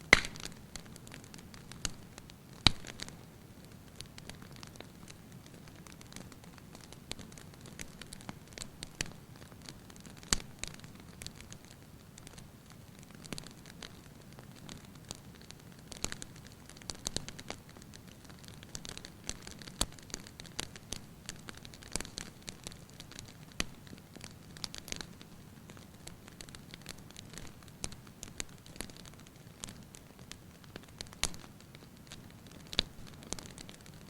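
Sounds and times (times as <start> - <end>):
low noise of burning: 0.0 - 34.0
wood fire crackling: 0.0 - 34.0.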